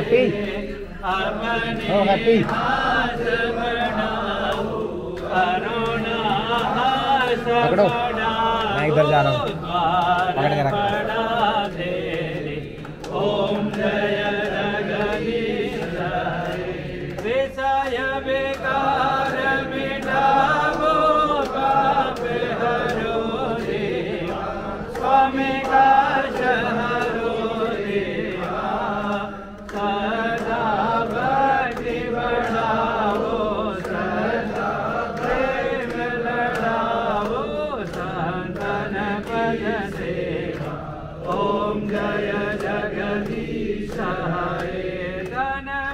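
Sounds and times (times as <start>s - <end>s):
group singing a hymn: 0.0s - 45.9s
sharp rhythmic taps: 0.0s - 45.9s.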